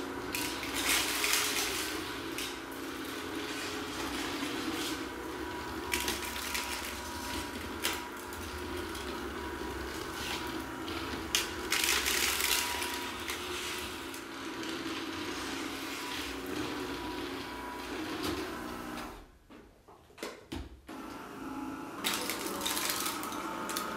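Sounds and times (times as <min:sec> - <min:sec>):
electric broom motor hum: 0:00.0 - 0:19.2, 0:20.9 - 0:23.9.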